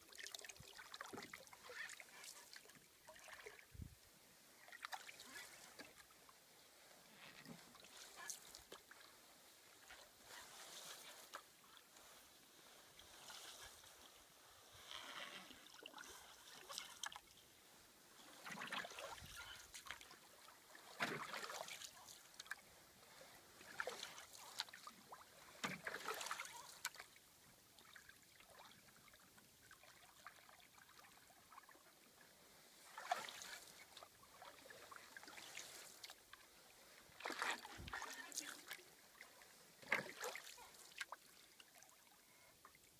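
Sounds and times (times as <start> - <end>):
paddle swishing through water: 0.0 - 42.1.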